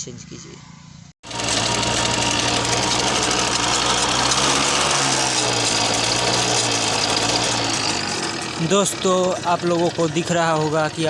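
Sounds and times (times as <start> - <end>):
small motorcycle engine running: 1.2 - 11.0.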